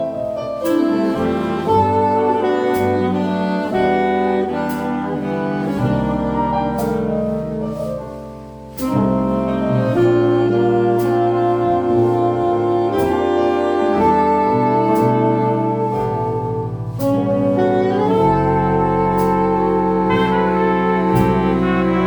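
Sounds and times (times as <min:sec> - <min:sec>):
jazz band playing: 0:00.0 - 0:22.0.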